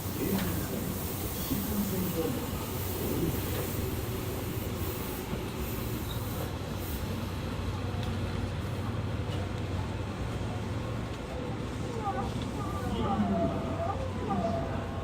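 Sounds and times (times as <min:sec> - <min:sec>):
subway train rumbling in tunnel: 0:00.0 - 0:15.0.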